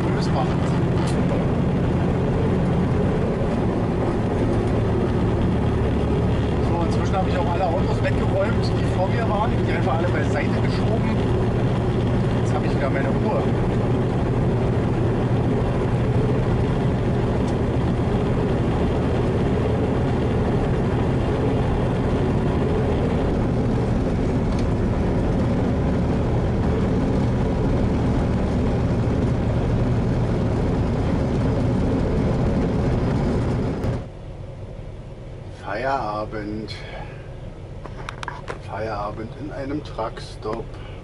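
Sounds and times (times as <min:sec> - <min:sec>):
road noise: 0:00.0 - 0:41.0
truck engine drone: 0:00.0 - 0:41.0.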